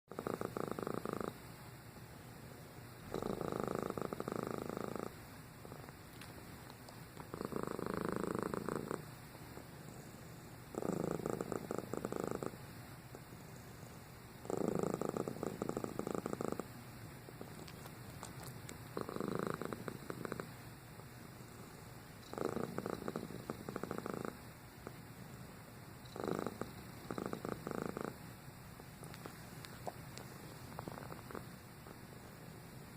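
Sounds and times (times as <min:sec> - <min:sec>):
cat purring: 0:00.1 - 0:01.5, 0:03.0 - 0:32.9.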